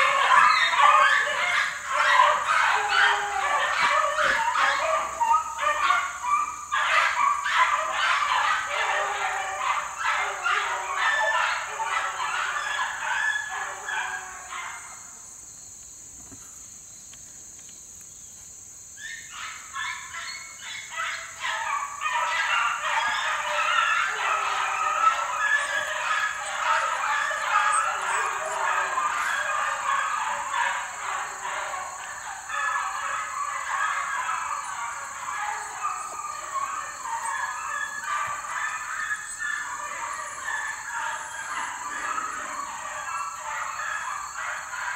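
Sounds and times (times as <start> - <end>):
beagles baying: 0.0 - 14.9, 19.4 - 44.9.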